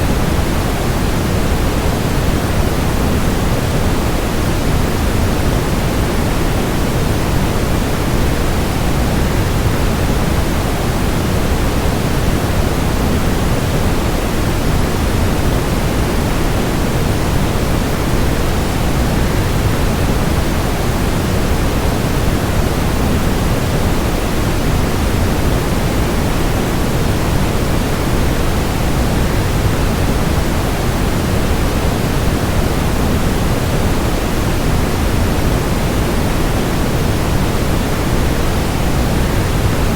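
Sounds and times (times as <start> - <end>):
soft white noise: 0.0 - 39.9.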